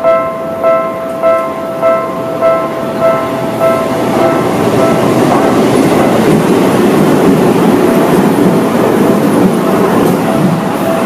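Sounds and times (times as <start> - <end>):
train wheels rumbling and clattering: 0.0 - 11.0.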